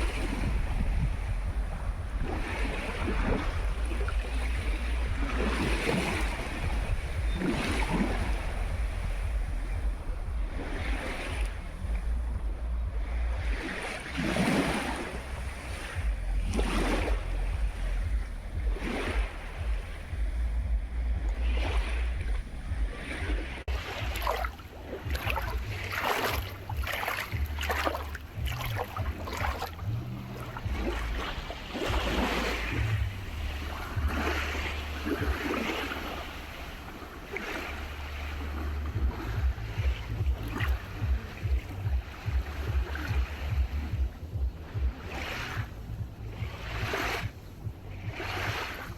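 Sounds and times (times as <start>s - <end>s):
small waves breaking on shore: 0.0s - 48.9s
wind buffeting microphone: 0.0s - 48.9s.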